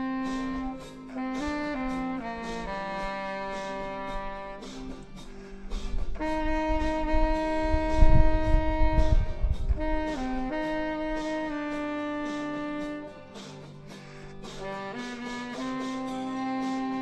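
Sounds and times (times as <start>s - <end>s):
saxophone playing long notes: 0.0s - 5.2s, 6.0s - 13.6s, 14.4s - 17.0s.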